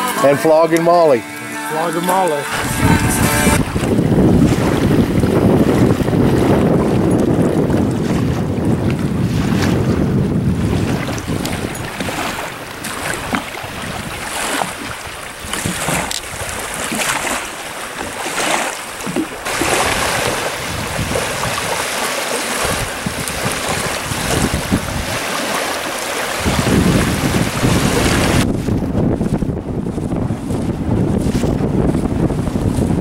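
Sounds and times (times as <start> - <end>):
small waves lapping on shore: 0.0 - 33.0
wind buffeting microphone: 2.4 - 33.0.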